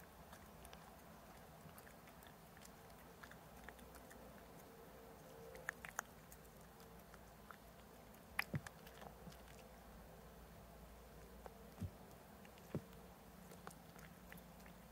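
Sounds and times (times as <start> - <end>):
cat crunching a treat: 0.0 - 9.8, 11.2 - 14.9.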